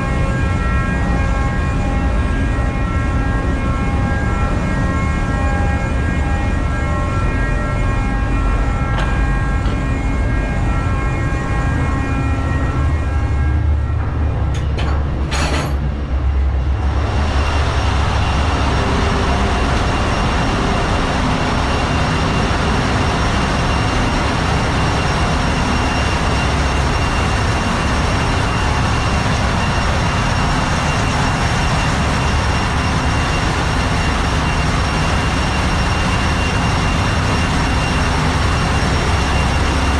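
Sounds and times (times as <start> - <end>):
engine room machinery din: 0.0 - 39.9
high steady whine: 0.0 - 39.9.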